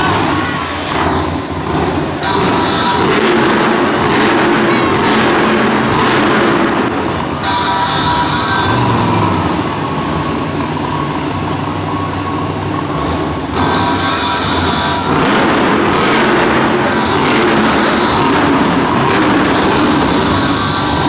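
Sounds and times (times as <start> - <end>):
truck engines running loudly: 0.0 - 21.0.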